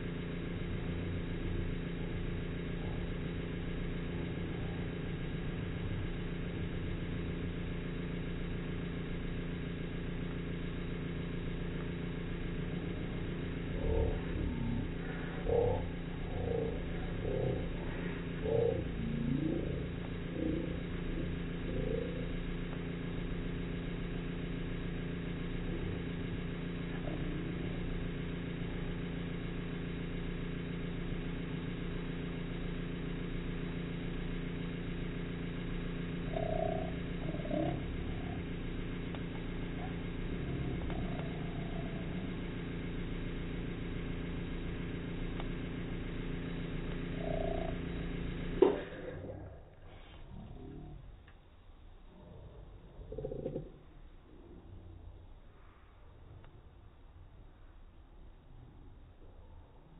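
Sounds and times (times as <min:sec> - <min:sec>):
espresso machine humming: 0:00.0 - 0:50.5
short low sounds: 0:00.0 - 0:51.4.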